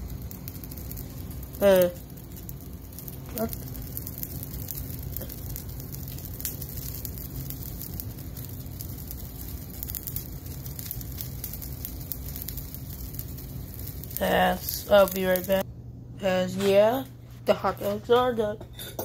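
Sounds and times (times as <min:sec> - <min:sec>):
water boiling in saucepan: 0:00.0 - 0:15.6.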